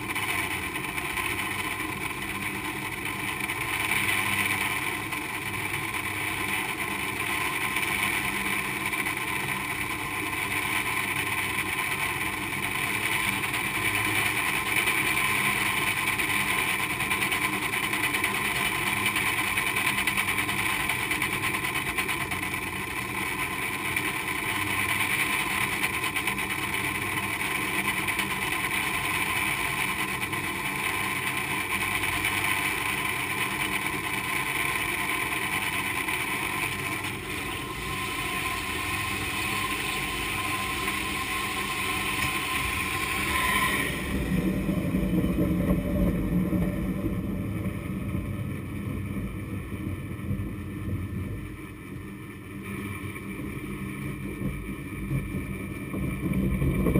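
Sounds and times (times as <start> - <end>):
cable running over sheave whirring: 0.0 - 56.9.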